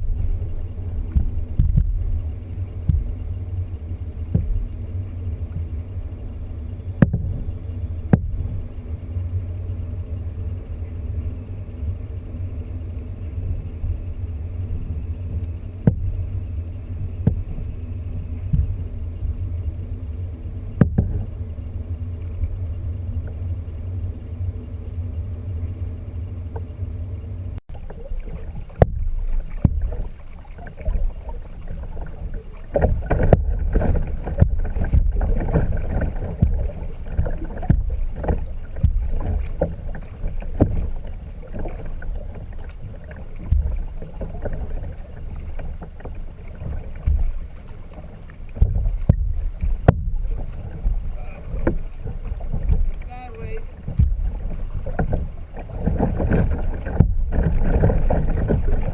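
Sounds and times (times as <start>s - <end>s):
steady low hum: 0.0s - 58.9s
wind and water rumbling on microphone: 0.0s - 58.9s.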